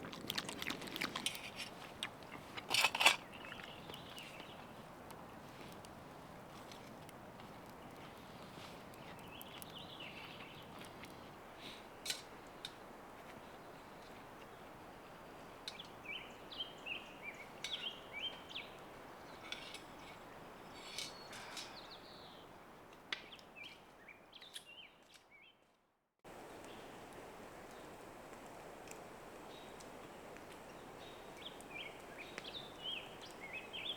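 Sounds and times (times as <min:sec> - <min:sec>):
forest birds chirping: 0:00.0 - 0:05.1, 0:07.4 - 0:25.7, 0:26.3 - 0:28.1, 0:29.4 - 0:33.9.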